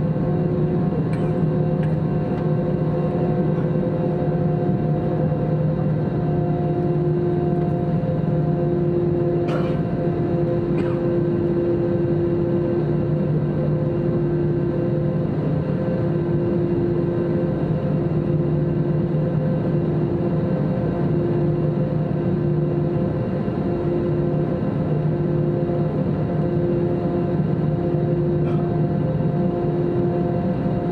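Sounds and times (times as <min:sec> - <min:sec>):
airplane cabin engine hum: 0:00.0 - 0:30.9.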